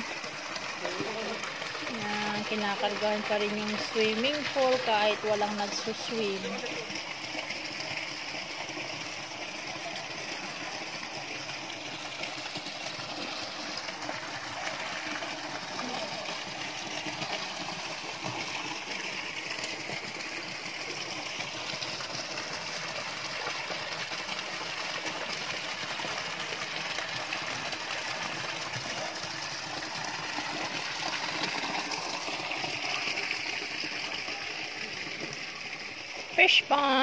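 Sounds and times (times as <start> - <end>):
water pouring into pool: 0.0 - 37.0.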